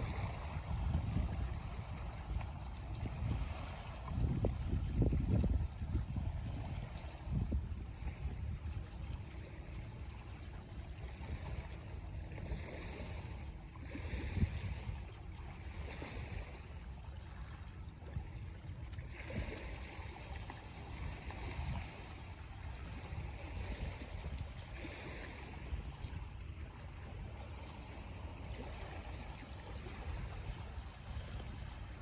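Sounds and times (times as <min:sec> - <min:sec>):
low rumble of wind: 0:00.0 - 0:32.0
waves lapping against shore: 0:00.0 - 0:32.0.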